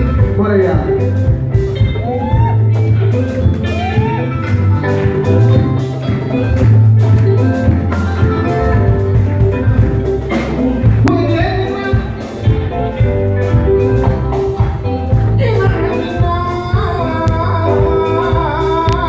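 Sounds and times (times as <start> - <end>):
drum kit: 0.0 - 19.0
electric guitars: 0.0 - 19.0
steady bass line: 0.0 - 19.0.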